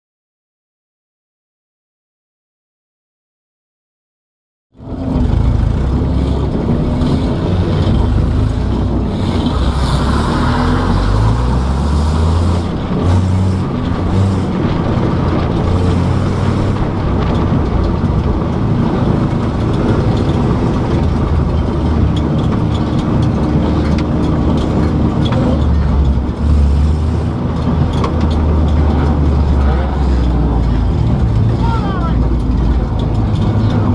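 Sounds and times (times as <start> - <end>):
road noise inside car: 4.8 - 33.9
vehicle engine hum: 4.8 - 33.9.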